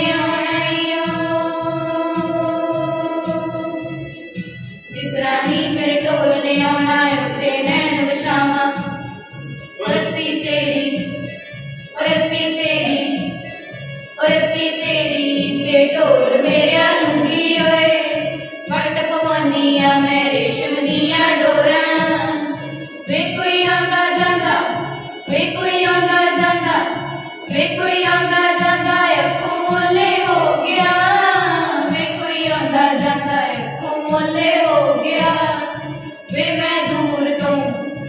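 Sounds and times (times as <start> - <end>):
steady low beat: 0.0 - 37.0
girls singing into microphones: 0.0 - 38.0.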